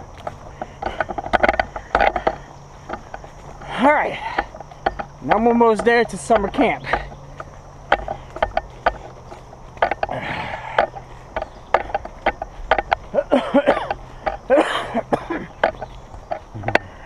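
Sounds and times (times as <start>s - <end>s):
hard breathing: 0.0s - 5.2s, 6.8s - 17.0s
backpack straps clicking and creaking: 0.0s - 17.0s
footsteps: 0.0s - 17.0s.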